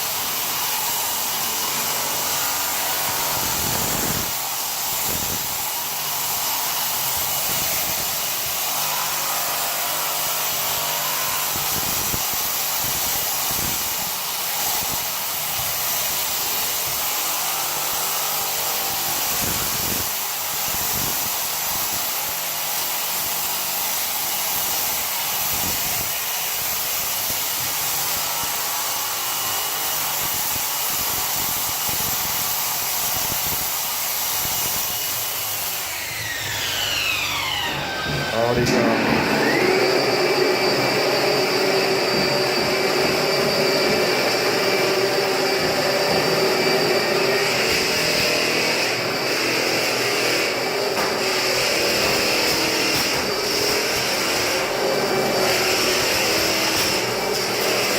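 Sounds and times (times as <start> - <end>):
machine running with rushing hiss: 0.0 - 57.9.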